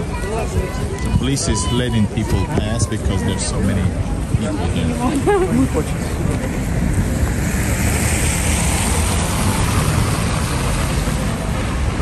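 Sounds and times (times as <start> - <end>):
traffic on slushy road: 0.0 - 12.0.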